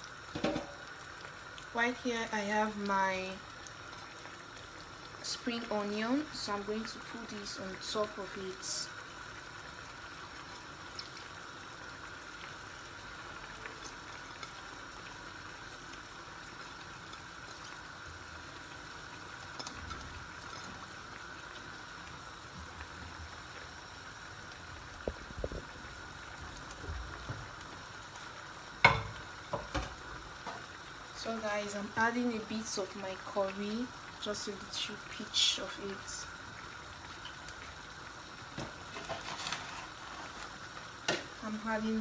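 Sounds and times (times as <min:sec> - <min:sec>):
sauce sizzling and bubbling: 0:00.0 - 0:42.0.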